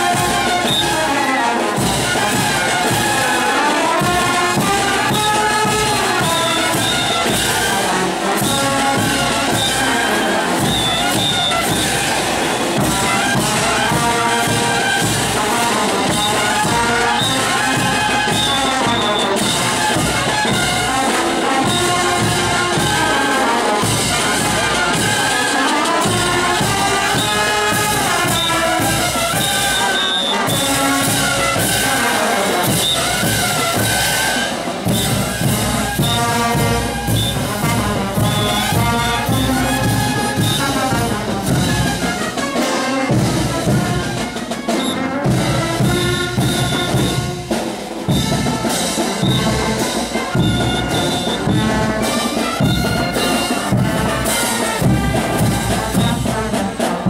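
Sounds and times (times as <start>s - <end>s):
trumpets playing melody: 0.0s - 57.0s
tuba playing low parts: 0.0s - 57.0s.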